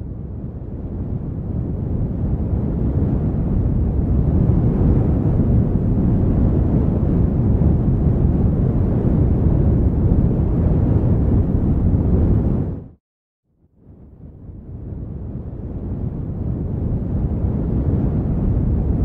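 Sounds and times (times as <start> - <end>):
wind rumbling on microphone: 0.0 - 13.0, 13.6 - 19.0.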